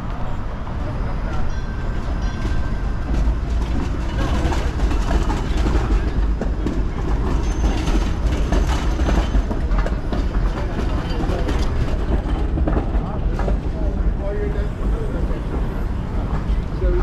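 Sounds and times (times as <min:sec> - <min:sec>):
streetcar rumbling on rails: 0:00.0 - 0:17.0.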